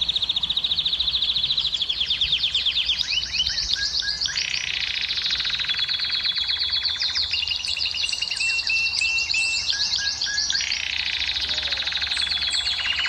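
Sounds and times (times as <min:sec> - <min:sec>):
canary singing trills: 0:00.0 - 0:13.0.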